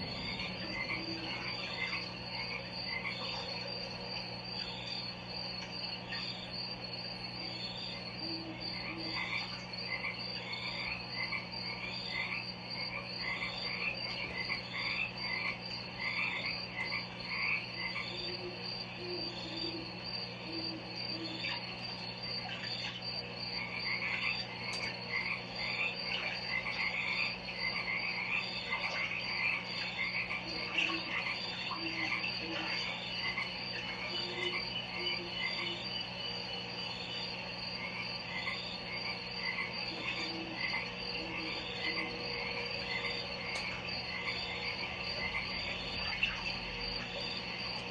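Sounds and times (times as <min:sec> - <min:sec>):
faint steady hum: 0:00.0 - 0:47.9
frogs chirping: 0:00.0 - 0:47.9
high insect trill: 0:00.0 - 0:47.9
low frog croaks: 0:00.0 - 0:47.9.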